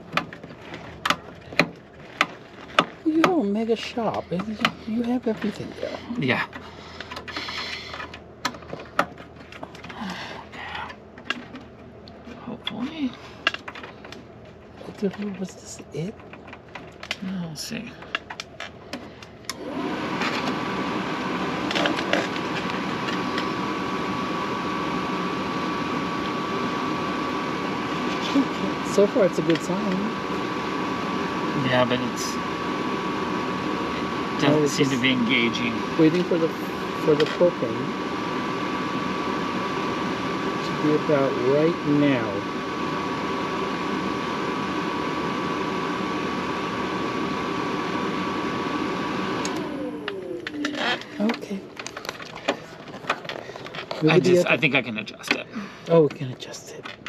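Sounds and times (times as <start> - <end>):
furnace blower fan rushing air: 0.0 - 56.5
faint steady whine: 0.0 - 57.0.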